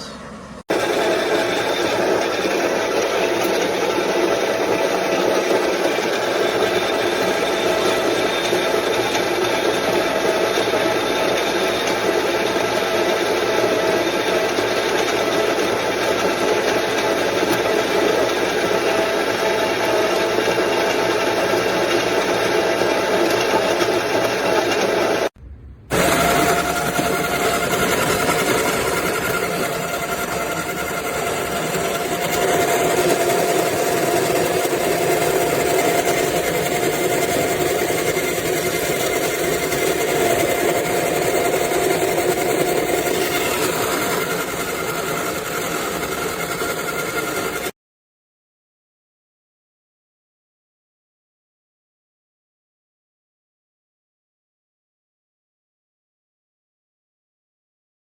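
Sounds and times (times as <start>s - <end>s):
coffee grinder motor whining: 0.0s - 25.3s, 25.9s - 47.7s.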